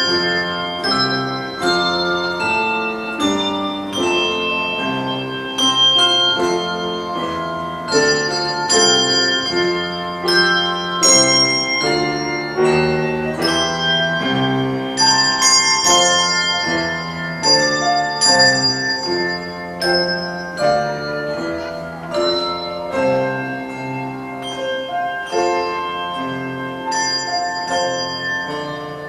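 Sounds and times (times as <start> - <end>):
handbell choir ringing chords: 0.0 - 29.0
piano accompaniment: 0.0 - 29.0.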